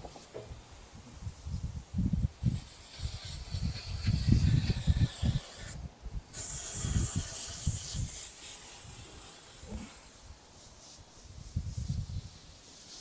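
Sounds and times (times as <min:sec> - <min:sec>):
aerosol spraying hiss: 0:00.0 - 0:13.0.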